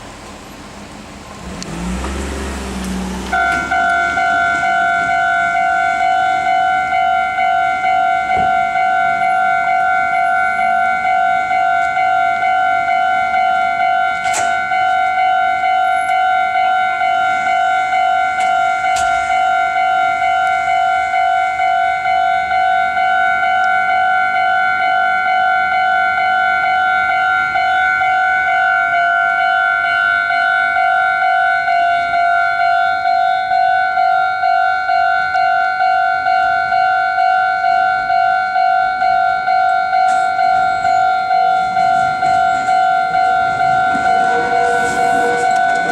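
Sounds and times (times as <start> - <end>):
level crossing bell ringing: 3.3 - 45.9.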